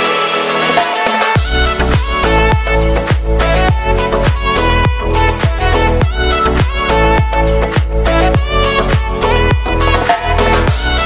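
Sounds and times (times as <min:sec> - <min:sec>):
deep electronic kick beat: 0:01.4 - 0:11.0.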